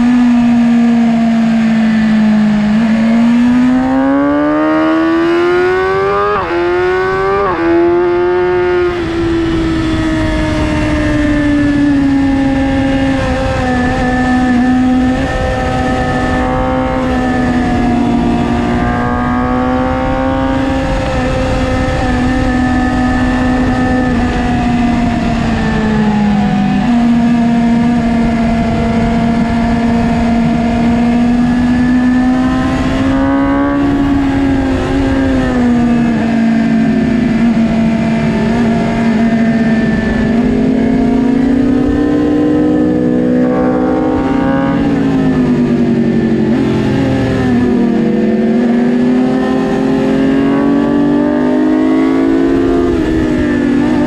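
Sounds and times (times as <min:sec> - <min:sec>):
motorcycle engine running: 0:00.0 - 0:54.0
wind rushing over camera: 0:00.0 - 0:54.0.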